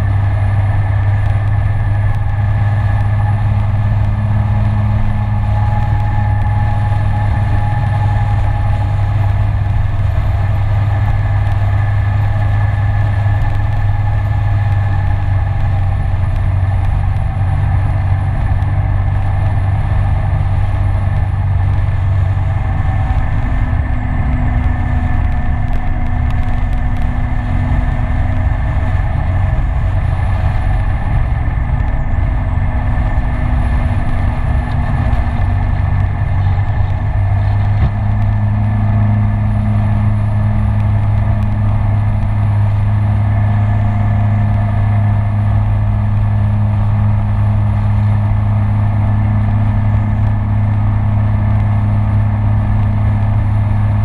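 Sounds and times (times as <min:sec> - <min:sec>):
scooter engine running: 0:00.0 - 0:54.0
steady rush of noise: 0:00.0 - 0:54.0.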